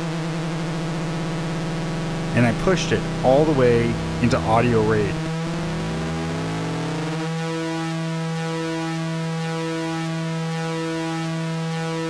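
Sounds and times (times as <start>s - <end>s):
synthesizer buzzing drone: 0.0s - 12.0s.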